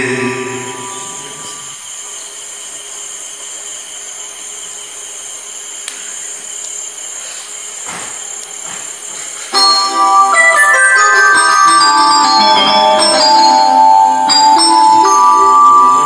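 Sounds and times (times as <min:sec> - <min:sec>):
background hiss: 0:00.0 - 0:16.0
crickets chirring: 0:00.0 - 0:16.0.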